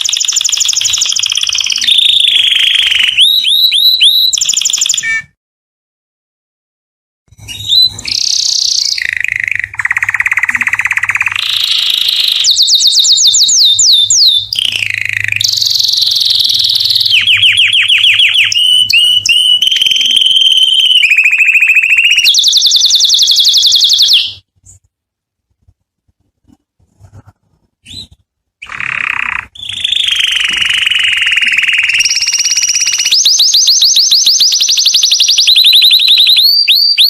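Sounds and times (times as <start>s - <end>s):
canary singing rapid trills: 0.0s - 5.3s, 7.4s - 24.8s, 27.8s - 37.0s
faint bird chirps: 0.0s - 5.4s, 7.4s - 24.8s, 27.8s - 37.0s.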